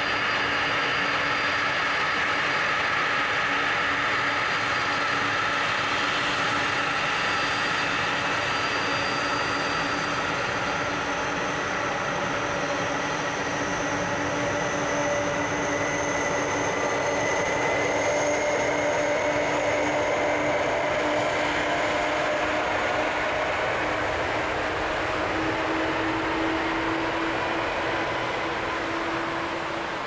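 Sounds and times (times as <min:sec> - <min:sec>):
jet engines rumbling with whine: 0:00.0 - 0:30.0.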